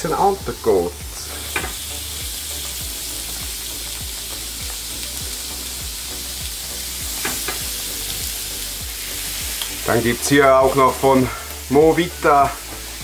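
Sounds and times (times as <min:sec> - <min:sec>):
meat sizzling on a grill plate: 0:00.0 - 0:13.0.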